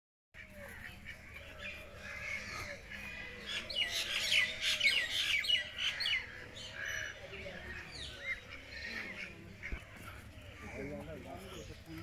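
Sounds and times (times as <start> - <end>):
parakeets chirping and squawking: 0.6 - 11.8.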